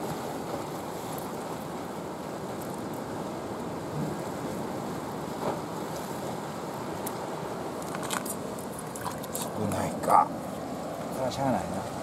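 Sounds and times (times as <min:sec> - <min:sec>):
sea wash: 0:00.0 - 0:12.0
wind: 0:00.0 - 0:12.0
wind rumbling on microphone: 0:00.0 - 0:12.0.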